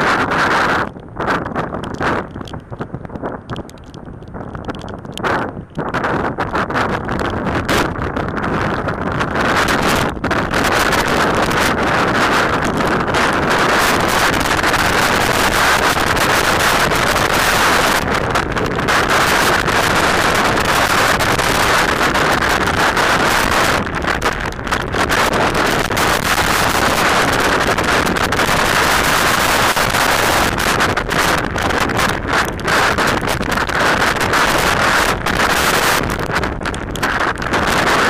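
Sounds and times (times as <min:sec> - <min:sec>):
driving rain: 0:00.0 - 0:38.0
storm wind on microphone: 0:00.0 - 0:38.0.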